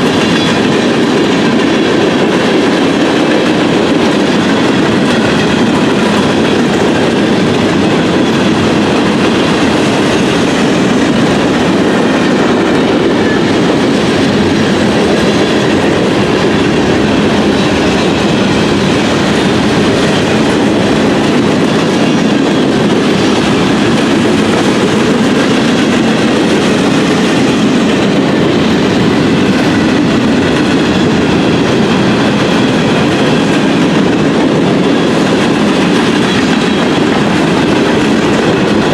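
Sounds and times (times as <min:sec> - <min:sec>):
train wheels on track: 0:00.0 - 0:38.9.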